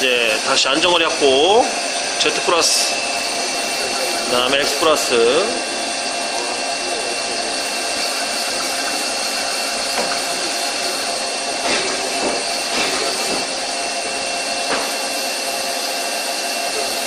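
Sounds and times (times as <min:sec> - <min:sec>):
lathe whirring with high whine: 0:00.0 - 0:17.0.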